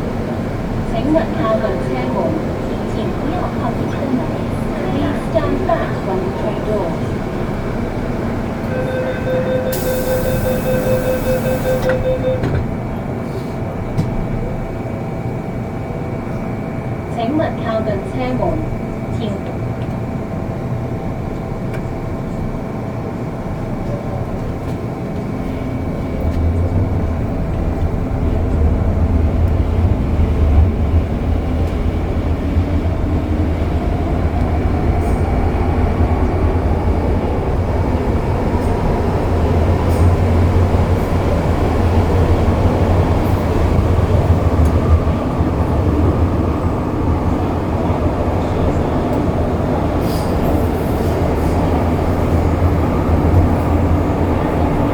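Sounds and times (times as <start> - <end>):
metro car hum with whining tones: 0.0 - 54.9
train wheels rumbling on rails: 0.0 - 54.9.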